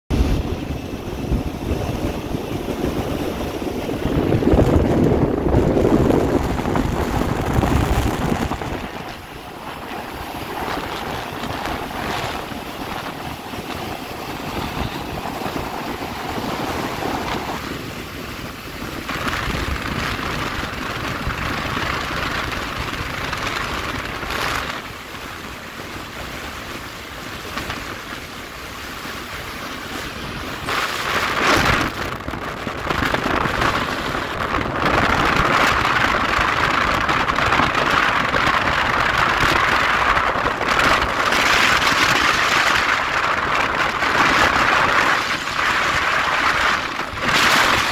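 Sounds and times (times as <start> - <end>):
motorcycle road noise: 0.0 - 47.9
wind rushing over microphone: 0.1 - 47.9.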